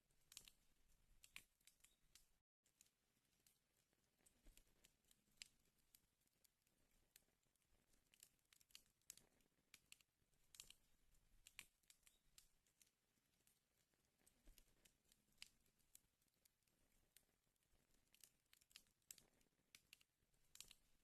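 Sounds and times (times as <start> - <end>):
wood fire crackling: 0.2 - 2.4, 3.2 - 21.0.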